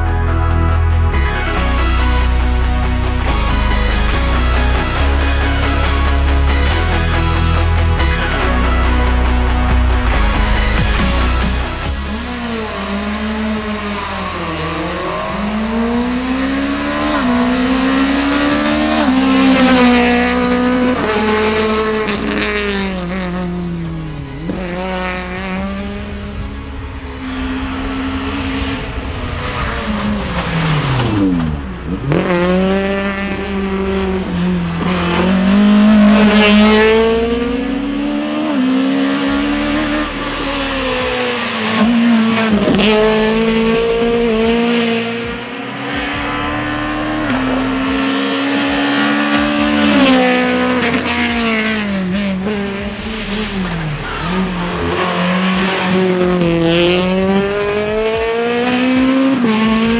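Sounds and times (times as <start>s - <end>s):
car engine revving hard: 11.0s - 59.9s.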